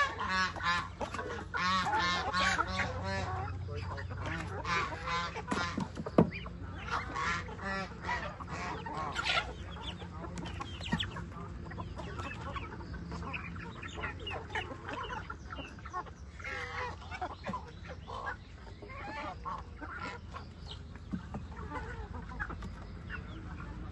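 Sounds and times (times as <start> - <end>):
chickens clucking: 0.0 - 23.9
ducks calling: 0.0 - 23.9
geese honking: 0.0 - 23.9.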